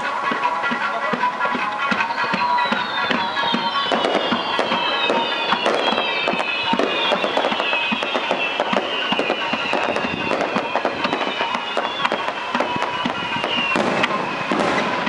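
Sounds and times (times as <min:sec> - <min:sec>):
fireworks crackling and popping: 0:00.0 - 0:15.0
high tones sliding down: 0:00.0 - 0:15.0.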